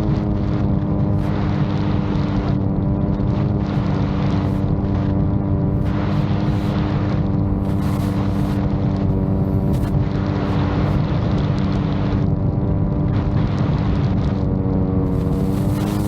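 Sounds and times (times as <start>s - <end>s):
drone propellers humming: 0.0s - 16.0s
rough low rumble: 0.0s - 16.0s.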